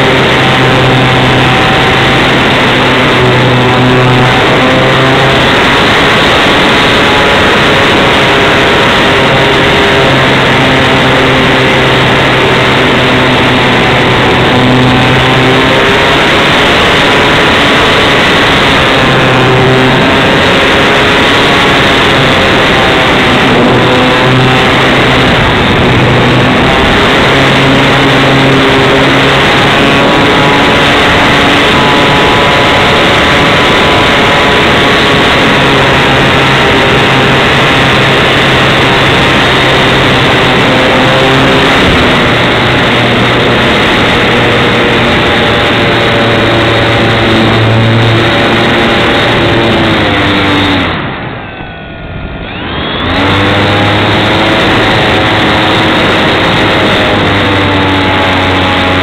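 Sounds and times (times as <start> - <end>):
model plane motor and propeller: 0.0 - 51.8, 52.4 - 59.0
wind rushing: 0.0 - 57.4.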